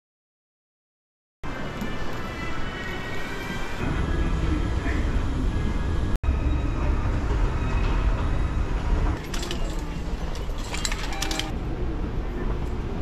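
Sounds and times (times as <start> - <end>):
passenger train rumbling: 1.5 - 13.0.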